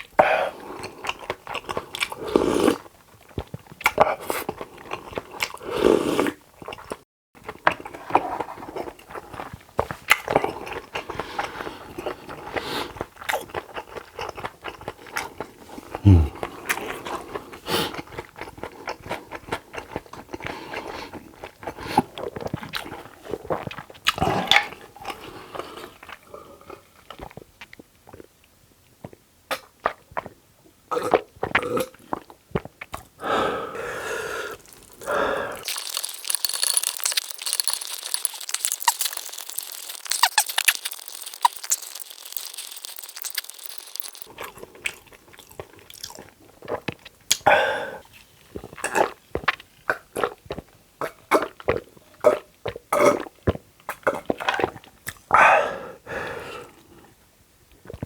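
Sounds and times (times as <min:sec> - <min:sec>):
man chewing food: 0:00.0 - 0:55.4.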